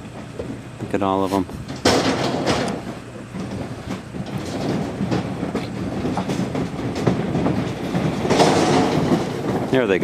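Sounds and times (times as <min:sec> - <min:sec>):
sheep hooves clattering on ramp: 0:00.0 - 0:10.0.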